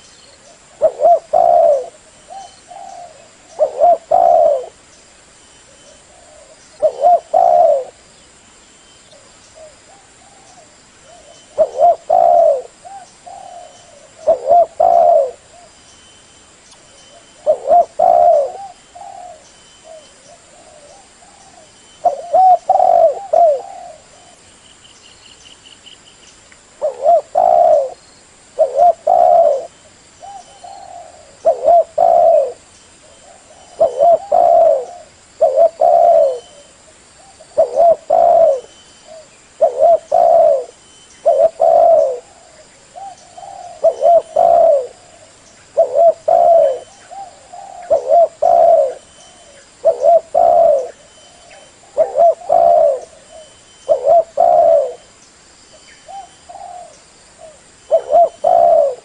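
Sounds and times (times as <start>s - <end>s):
dove cooing: 0.0s - 4.8s, 5.7s - 8.1s, 9.2s - 15.8s, 17.1s - 24.4s, 26.8s - 28.0s, 28.6s - 55.1s, 56.0s - 59.0s.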